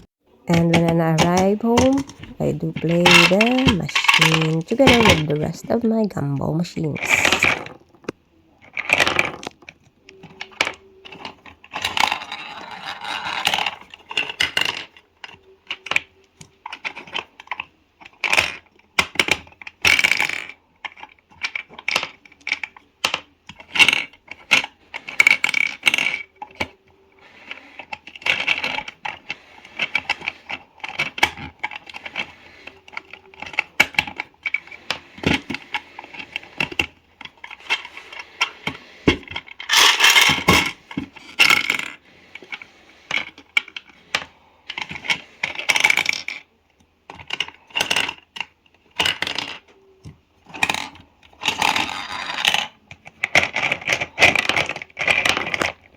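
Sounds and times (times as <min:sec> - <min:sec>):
gumball machine clicks and rattles: 0:00.5 - 0:55.9.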